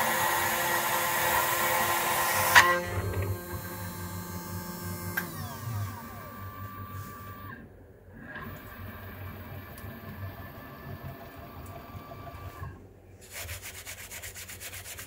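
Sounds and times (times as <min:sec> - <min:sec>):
machine motor whine: 0:00.0 - 0:12.8.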